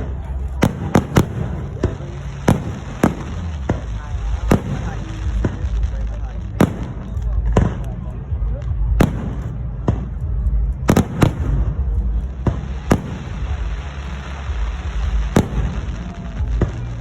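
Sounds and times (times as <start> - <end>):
fireworks bangs: 0.0 - 17.0
low rumble: 0.0 - 17.0.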